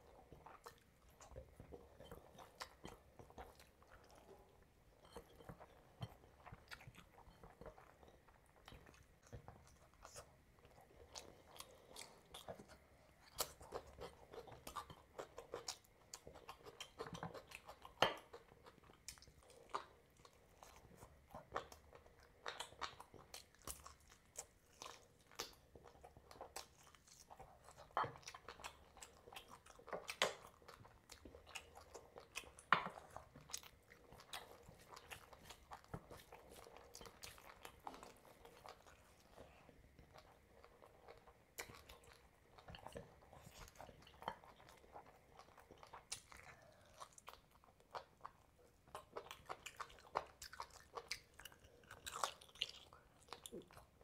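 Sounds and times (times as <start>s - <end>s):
man chewing food: 0.0s - 54.0s.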